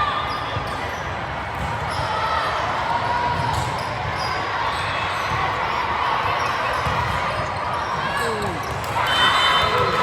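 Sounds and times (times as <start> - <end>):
echoing crowd noise: 0.0 - 10.0.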